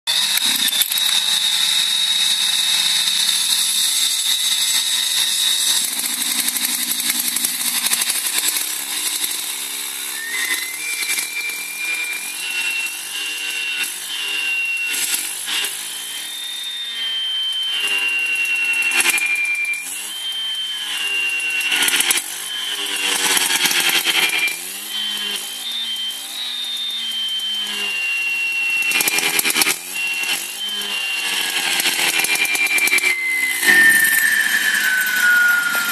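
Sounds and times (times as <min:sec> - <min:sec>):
cut-off saw engine revving: 0:00.1 - 0:35.9.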